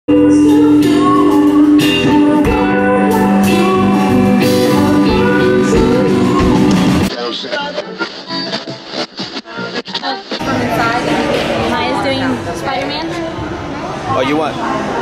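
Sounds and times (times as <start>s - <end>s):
live band with singing: 0.1s - 15.0s.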